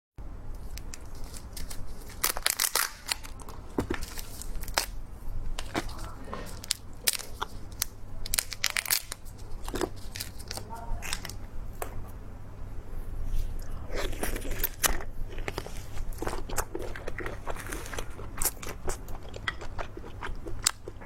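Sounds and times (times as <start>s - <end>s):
person eating crunchy food: 0.6s - 11.4s, 13.3s - 21.0s.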